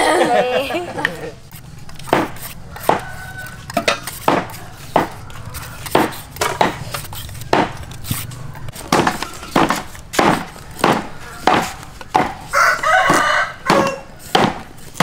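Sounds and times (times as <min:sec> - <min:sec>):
peeler scraping carrots: 0:01.5 - 0:15.0.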